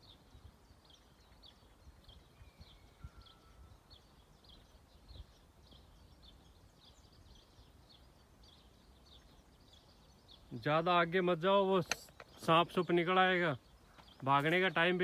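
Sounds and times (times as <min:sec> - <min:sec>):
songbird high chirps: 0:00.0 - 0:15.0.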